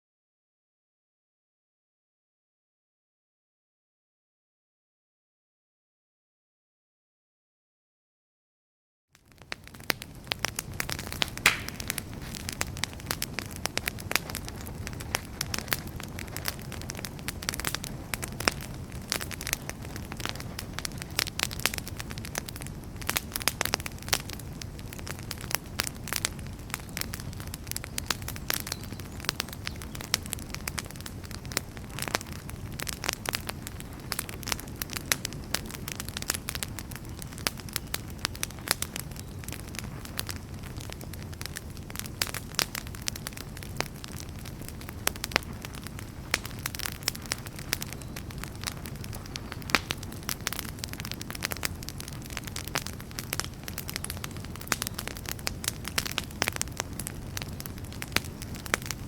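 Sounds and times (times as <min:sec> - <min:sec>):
campfire flames rumbling: 0:09.2 - 0:59.0
fire crackling and popping: 0:09.2 - 0:59.0.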